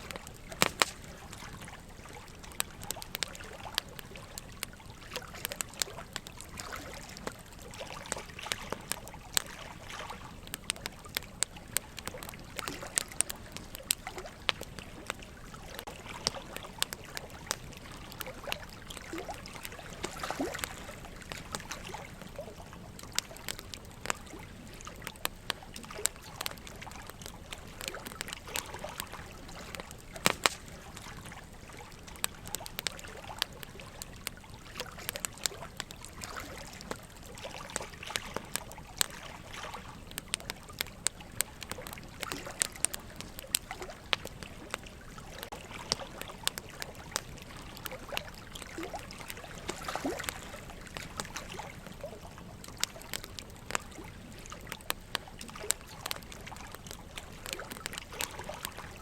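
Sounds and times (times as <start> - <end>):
running water trickling: 0.0 - 59.0
wood fire crackling: 0.0 - 59.0.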